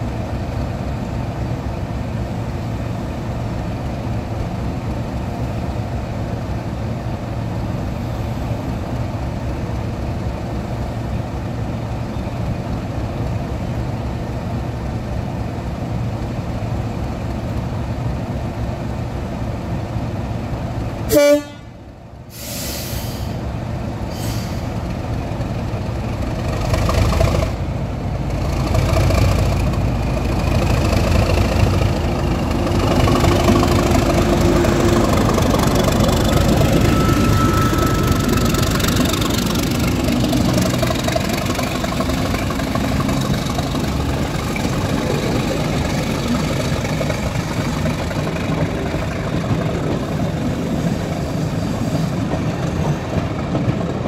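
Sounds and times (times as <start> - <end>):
diesel locomotive passing: 0.0 - 54.0.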